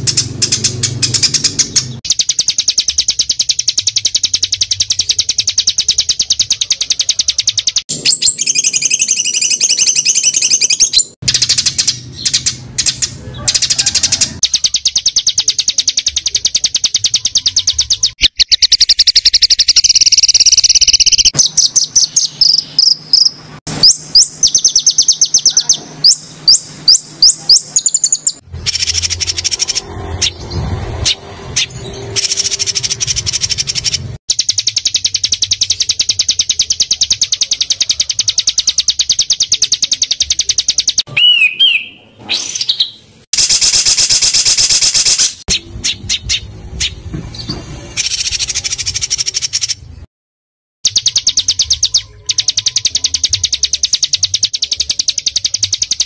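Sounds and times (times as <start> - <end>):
songbirds singing fast trills: 0.0 - 50.1, 50.8 - 56.0.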